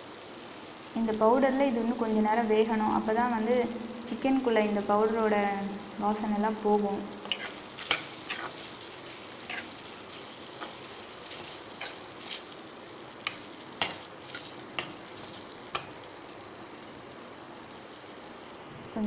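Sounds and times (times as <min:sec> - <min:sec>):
chicken sizzling in a pan: 0:00.0 - 0:18.5.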